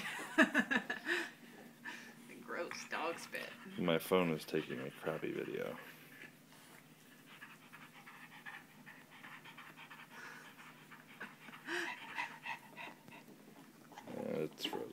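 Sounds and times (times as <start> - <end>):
dog panting: 1.6 - 14.9.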